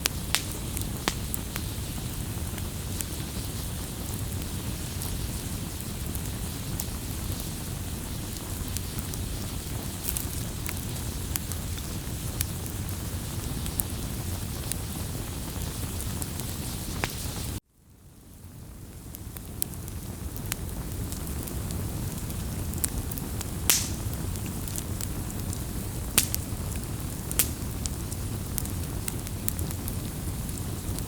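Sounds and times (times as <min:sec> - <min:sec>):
campfire flames rushing: 0:00.0 - 0:17.6, 0:18.4 - 0:31.0
fire popping and crackling: 0:00.0 - 0:17.6, 0:18.3 - 0:31.0.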